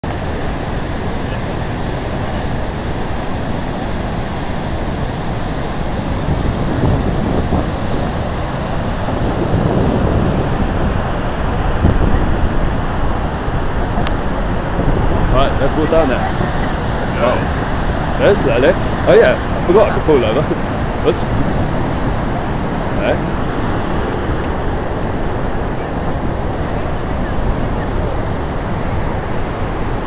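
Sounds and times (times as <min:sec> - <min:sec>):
whitewater rapids roaring: 0:00.0 - 0:30.0.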